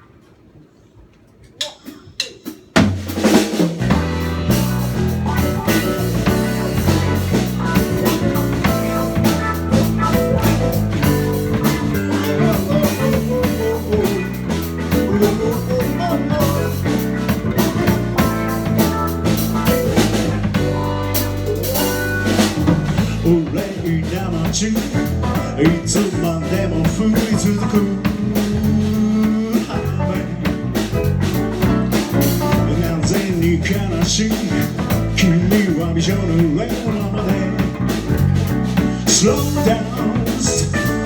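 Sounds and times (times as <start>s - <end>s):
drum kit: 1.6s - 41.0s
bass guitar: 3.0s - 41.0s
electric guitar: 3.9s - 41.0s.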